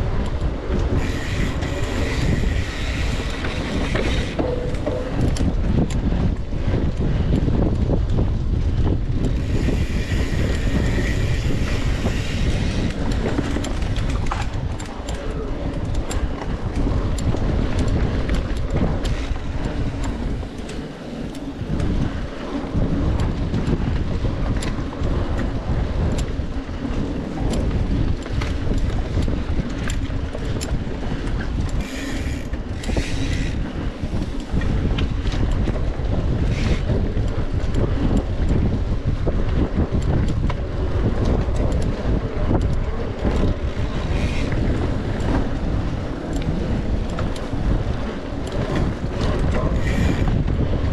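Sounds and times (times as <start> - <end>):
bike clicking and rattling: 0.0 - 50.9
wind buffeting microphone: 0.0 - 50.9.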